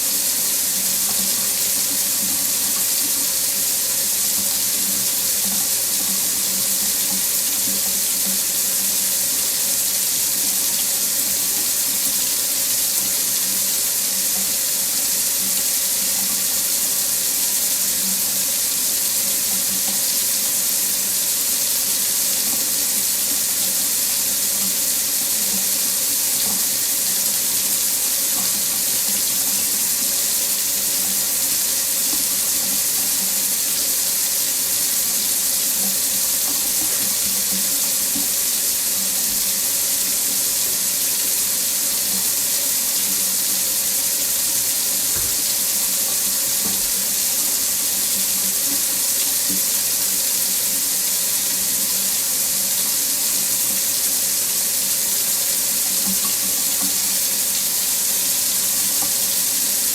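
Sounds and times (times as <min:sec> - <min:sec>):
tap running into a sink: 0:00.0 - 0:59.9.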